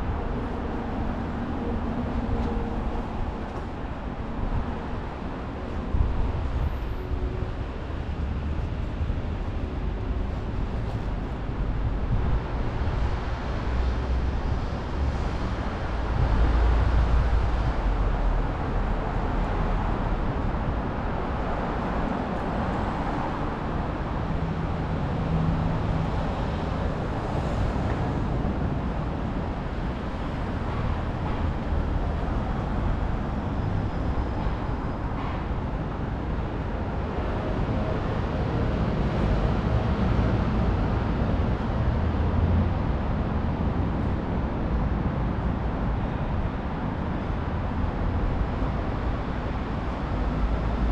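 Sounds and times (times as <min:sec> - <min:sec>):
passing vehicles rumbling: 0:00.0 - 0:50.9.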